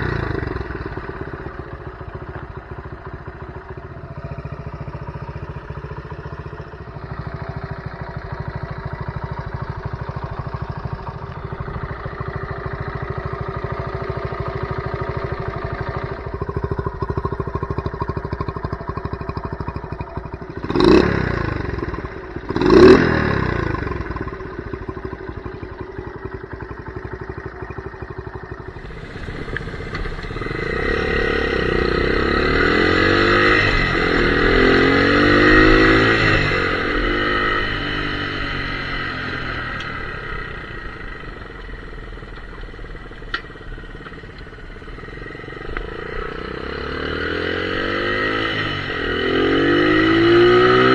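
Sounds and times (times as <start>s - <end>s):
small motorcycle engine running: 0.0s - 50.9s.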